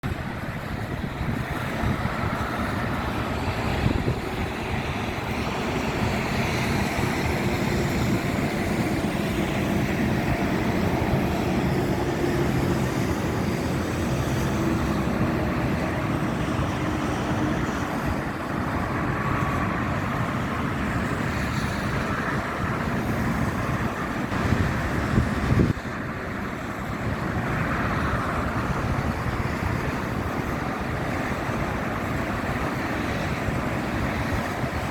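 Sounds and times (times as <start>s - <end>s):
wind and rain: 0.0s - 34.9s.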